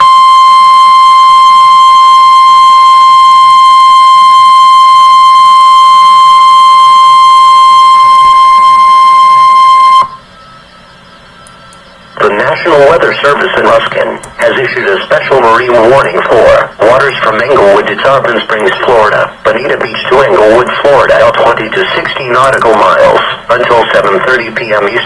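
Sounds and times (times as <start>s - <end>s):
steady alarm tone: 0.0s - 25.0s.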